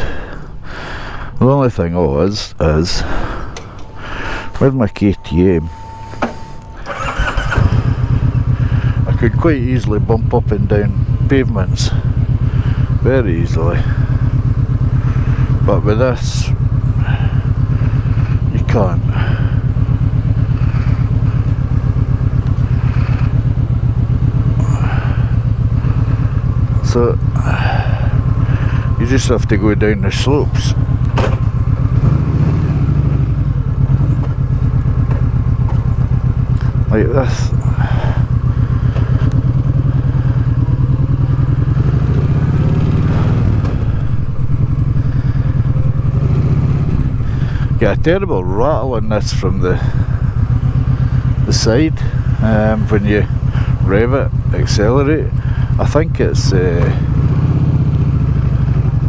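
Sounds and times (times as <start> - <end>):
motorcycle engine pulsing beat: 7.0 - 59.0.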